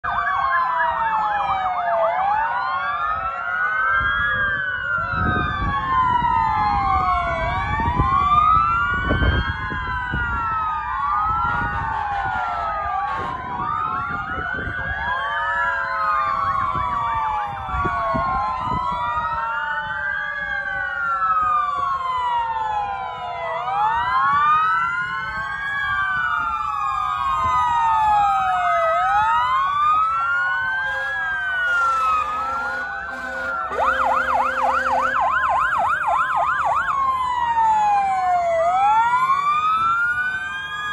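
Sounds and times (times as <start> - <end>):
fire truck sirens wailing: 0.0 - 40.9
low steady siren tone: 0.0 - 40.9.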